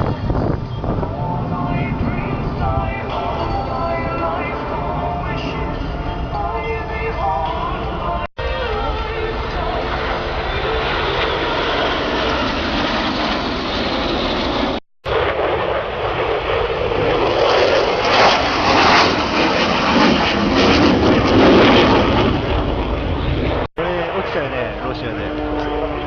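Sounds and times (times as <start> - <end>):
aircraft engine flying over: 0.0 - 26.0.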